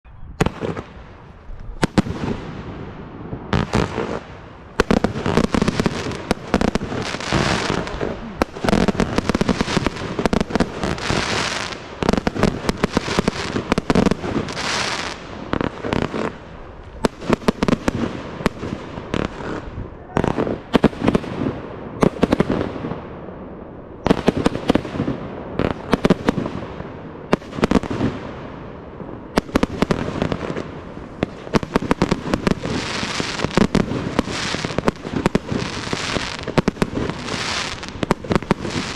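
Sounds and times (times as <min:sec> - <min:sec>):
crackling firework stars: 0:00.3 - 0:38.9.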